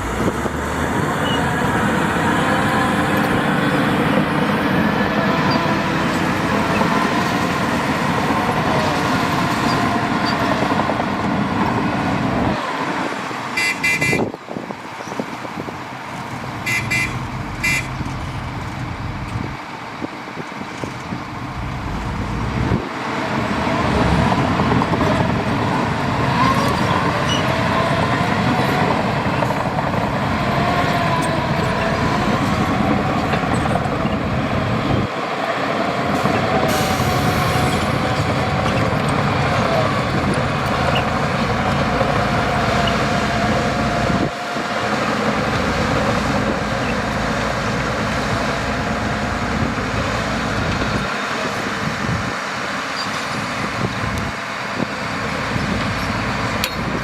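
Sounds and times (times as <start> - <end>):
heavy diesel machinery working: 0.0 - 57.0.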